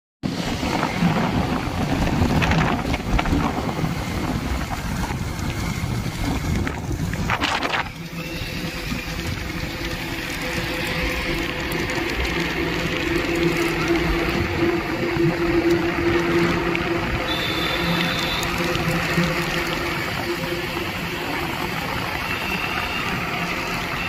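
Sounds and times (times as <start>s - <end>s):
vehicle rumbling on road: 0.2s - 24.0s
wind buffeting microphone: 0.2s - 24.0s.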